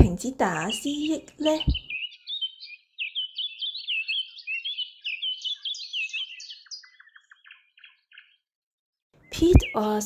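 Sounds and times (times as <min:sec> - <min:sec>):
birds chirping: 0:00.0 - 0:08.4, 0:09.2 - 0:10.0.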